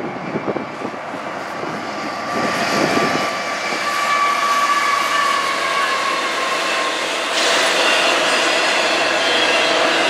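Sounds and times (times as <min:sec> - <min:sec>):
diesel locomotive engine: 0:00.0 - 0:10.0.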